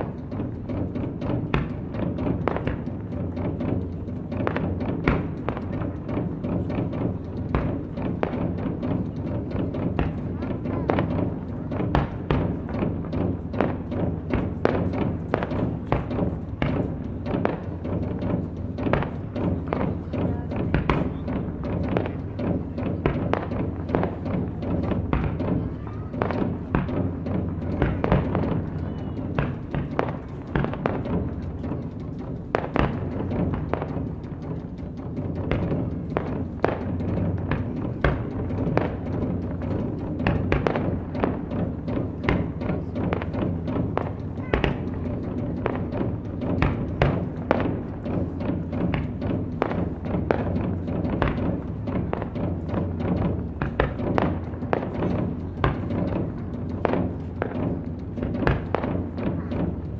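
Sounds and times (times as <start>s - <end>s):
low drum rumble: 0.0s - 59.9s.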